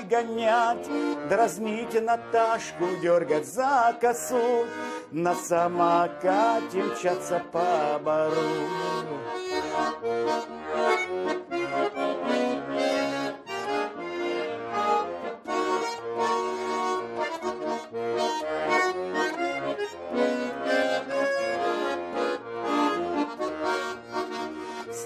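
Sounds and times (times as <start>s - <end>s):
accordion melody: 0.0s - 25.0s.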